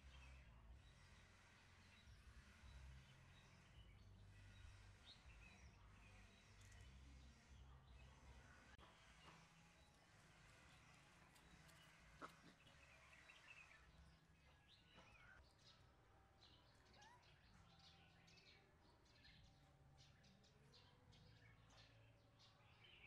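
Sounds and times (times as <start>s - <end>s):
small birds chirping faintly: 0.0s - 23.0s.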